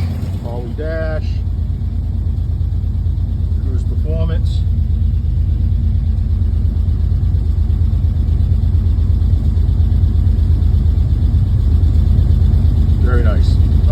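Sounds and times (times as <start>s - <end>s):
engine running low rumble: 0.0s - 13.9s.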